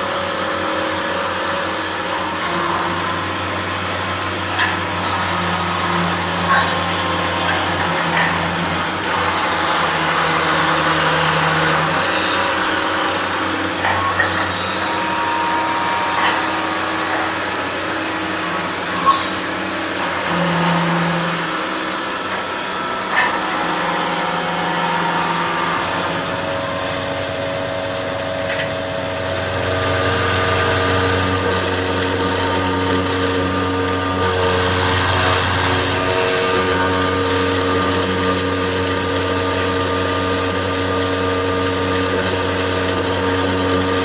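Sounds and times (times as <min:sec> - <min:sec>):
woodworking machine motor hum: 0:00.0 - 0:44.0.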